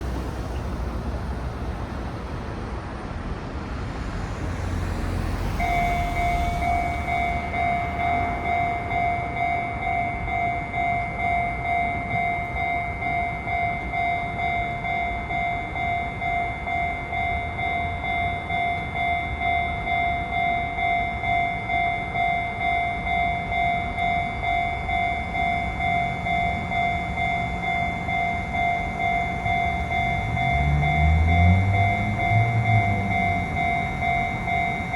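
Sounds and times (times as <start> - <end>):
railroad crossing warning bell: 5.0 - 34.9.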